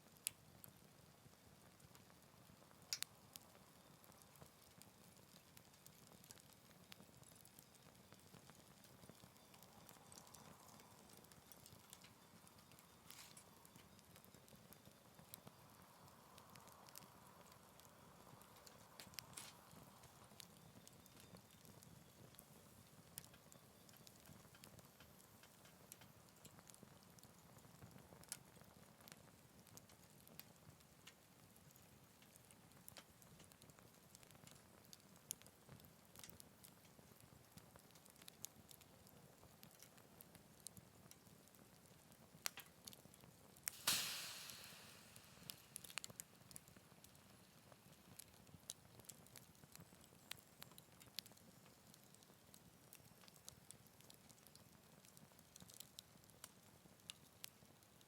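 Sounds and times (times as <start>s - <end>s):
loud crack of fire: 0.0s - 58.0s
wood fire crackling: 0.0s - 58.0s.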